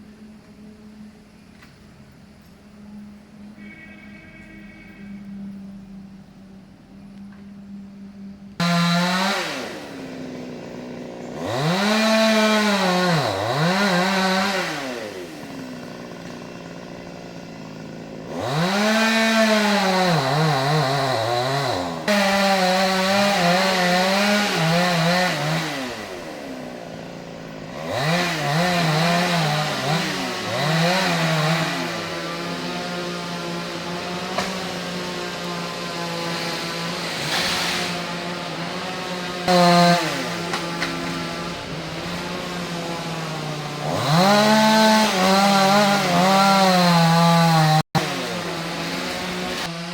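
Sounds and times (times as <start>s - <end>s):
chainsaw idling: 8.6s - 49.9s
chainsaw revving and cutting wood: 8.6s - 49.9s.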